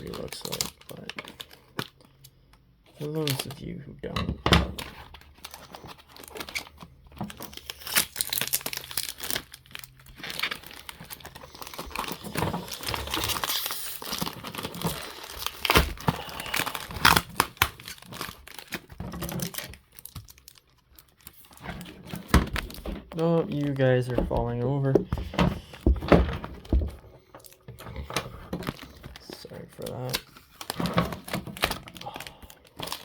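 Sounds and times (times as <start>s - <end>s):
packaging crinkled and torn: 0.0s - 3.8s, 4.7s - 25.8s, 26.6s - 33.0s.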